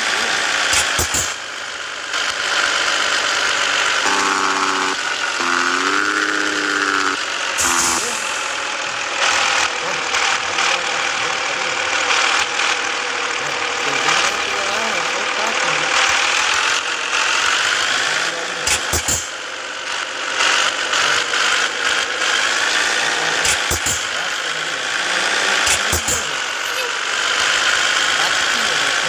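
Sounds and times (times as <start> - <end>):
road noise: 0.0 - 29.0
truck diesel engine running: 0.0 - 29.0.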